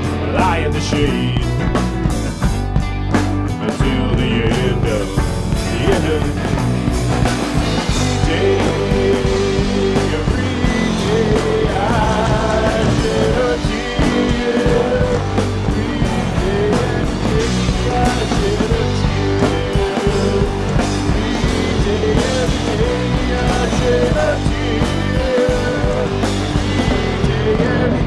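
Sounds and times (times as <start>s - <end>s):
drum kit: 0.0s - 28.0s
rock band playing live: 0.0s - 28.0s.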